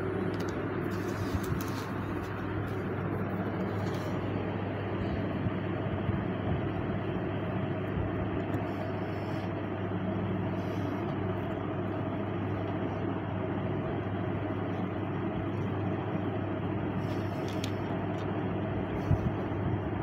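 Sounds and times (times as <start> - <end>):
constant low hum: 0.0 - 20.0
low rumble and hiss: 0.0 - 20.0.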